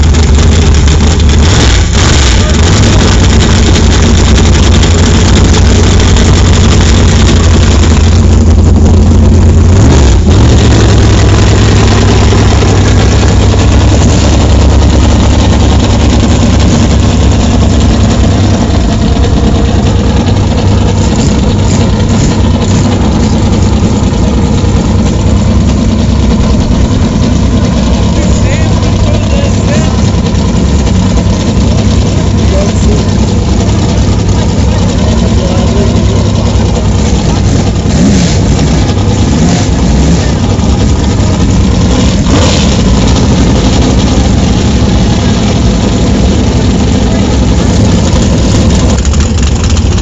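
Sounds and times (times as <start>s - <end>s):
v eight engine idling: 0.0s - 50.0s.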